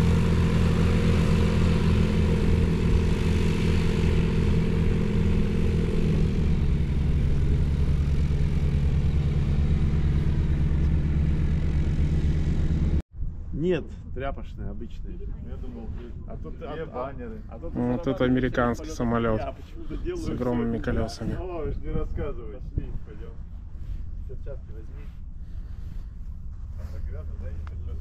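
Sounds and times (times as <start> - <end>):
light aircraft engine and propeller: 0.0 - 13.0, 13.9 - 28.0.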